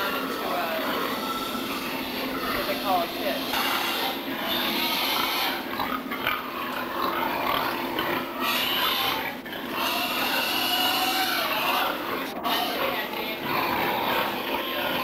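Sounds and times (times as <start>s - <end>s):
pigs grunting and crying: 0.0s - 15.0s.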